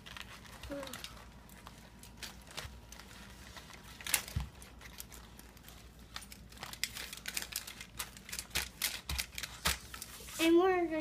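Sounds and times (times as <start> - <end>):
aluminium foil crinkling: 0.0 - 10.6.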